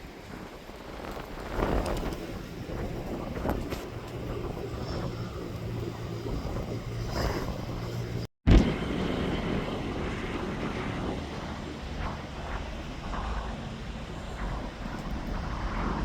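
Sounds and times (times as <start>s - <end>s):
aircraft engine hum: 0.0s - 16.0s
wind buffeting microphone: 0.0s - 16.0s.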